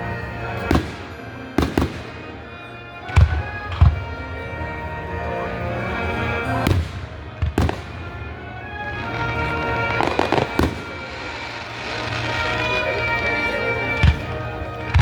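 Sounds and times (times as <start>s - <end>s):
fireworks crackling: 0.0s - 15.0s
music playing: 0.0s - 15.0s
firework bangs: 0.4s - 4.8s, 6.1s - 15.0s.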